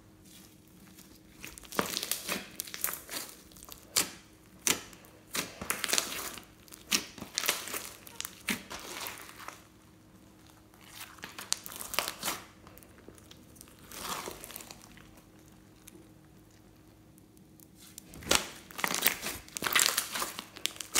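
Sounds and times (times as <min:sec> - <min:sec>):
slime crackling: 0:00.2 - 0:20.9.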